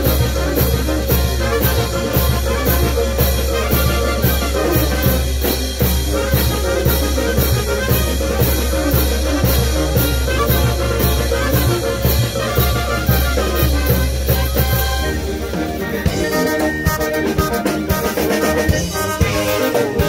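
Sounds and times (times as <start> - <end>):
brass band playing: 0.0 - 20.0.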